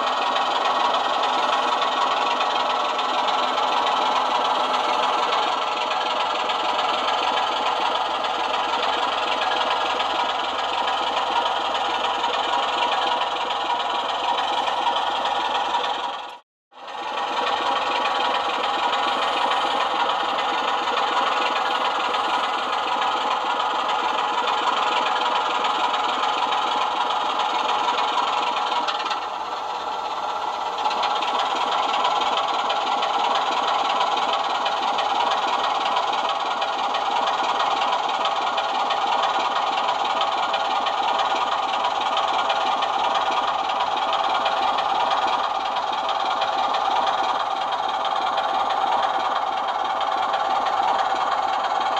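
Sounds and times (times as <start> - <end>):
diesel engine sound from small speaker: 0.0 - 51.9.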